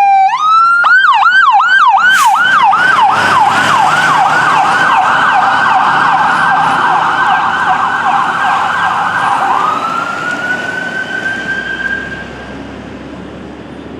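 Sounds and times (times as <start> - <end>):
emergency siren yelping and wailing: 0.0 - 12.5.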